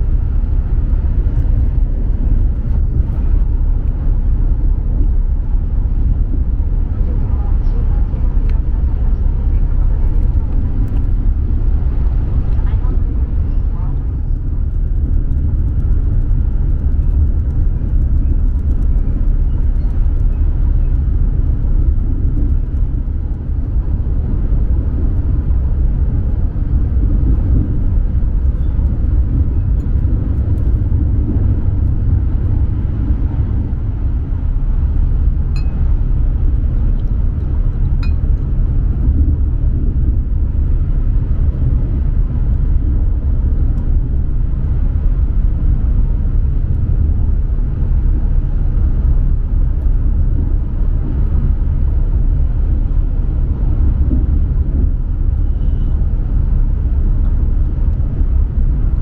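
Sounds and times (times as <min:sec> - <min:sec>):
train cabin low rumble: 0:00.0 - 0:59.0.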